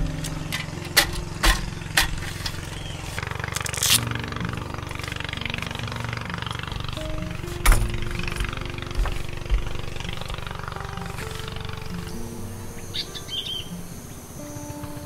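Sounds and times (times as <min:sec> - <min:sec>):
low held music notes: 0:00.0 - 0:15.0.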